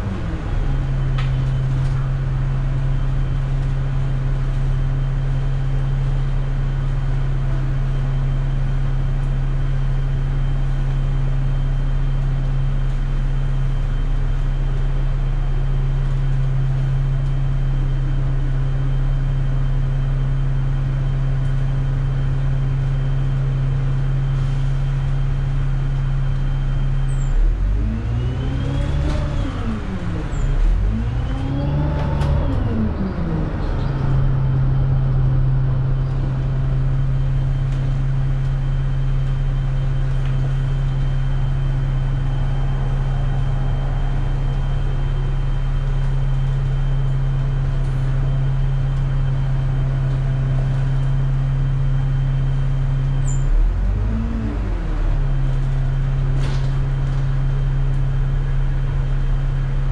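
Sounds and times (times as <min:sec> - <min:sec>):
bus engine with faint whine: 0:00.0 - 0:59.9.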